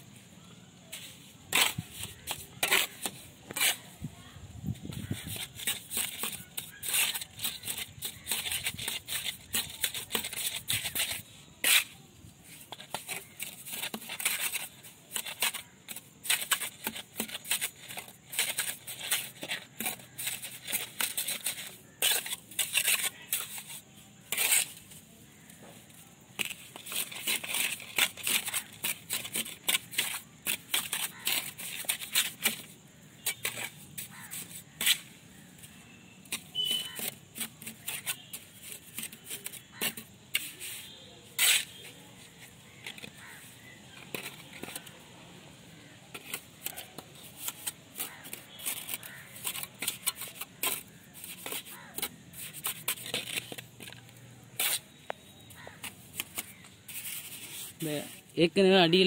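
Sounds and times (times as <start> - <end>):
trowel scraping mortar: 0.8 - 45.0, 45.8 - 59.0.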